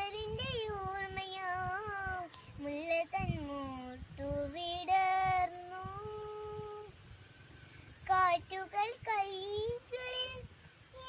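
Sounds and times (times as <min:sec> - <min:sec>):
girl singing: 0:00.0 - 0:07.0, 0:08.0 - 0:11.0.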